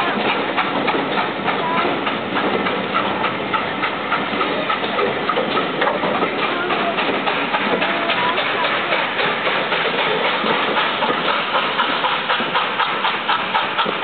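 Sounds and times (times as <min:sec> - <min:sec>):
train wheels clicking on track: 0:00.0 - 0:14.0.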